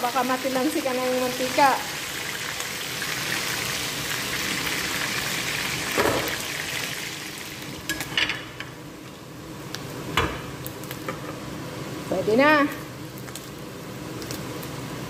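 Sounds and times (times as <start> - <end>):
chicken frying in hot oil: 0.0 - 15.0.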